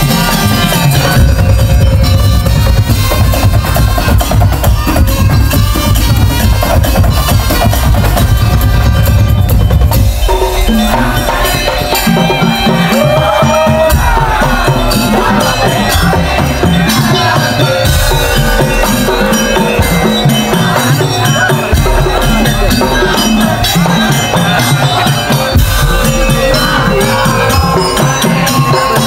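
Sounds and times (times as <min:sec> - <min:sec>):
drum and percussion ensemble: 0:00.0 - 0:29.0.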